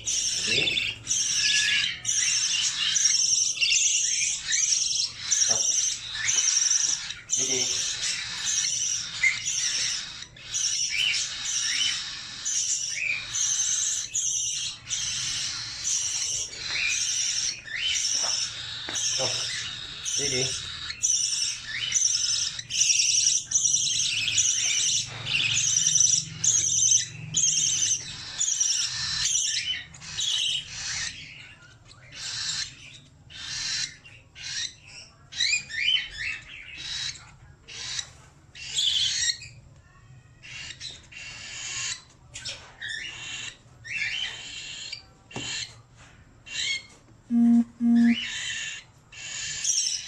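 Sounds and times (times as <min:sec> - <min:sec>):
budgerigar chirping: 0:00.0 - 0:39.6, 0:40.4 - 0:45.8, 0:46.5 - 0:50.0.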